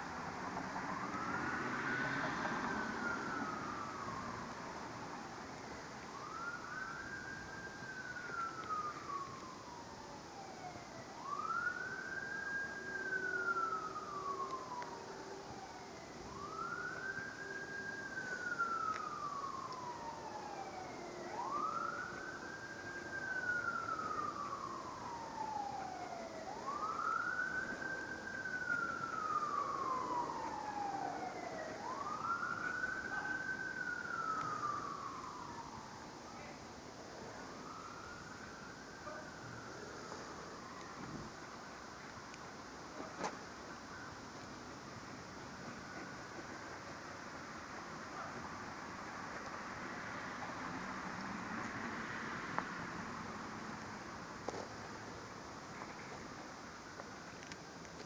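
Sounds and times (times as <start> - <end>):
wailing siren: 0.0 - 57.0.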